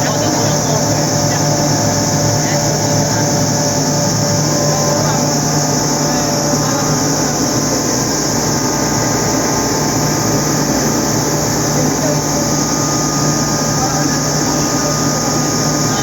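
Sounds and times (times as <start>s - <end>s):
air compressor running: 0.0s - 16.0s.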